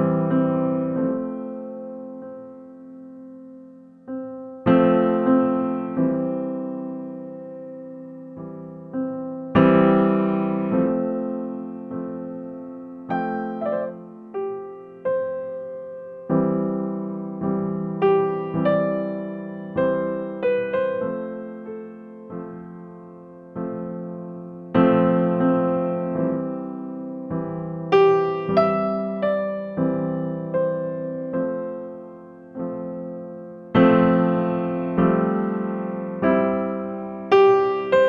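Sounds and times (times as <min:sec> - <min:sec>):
slow electric piano piece: 0:00.0 - 0:38.0.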